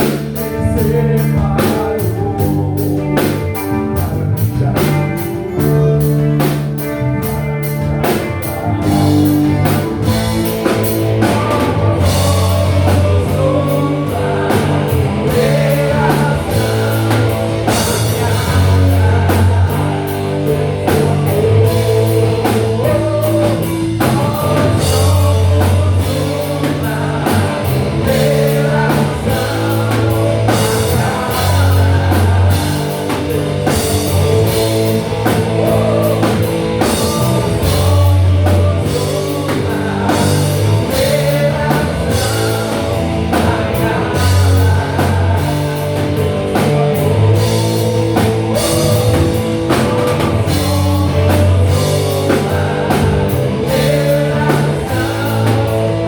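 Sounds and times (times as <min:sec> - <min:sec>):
bass guitar: 0:00.0 - 0:56.0
drum kit: 0:00.0 - 0:56.0
electric guitars: 0:00.0 - 0:56.0
person singing: 0:00.0 - 0:56.0.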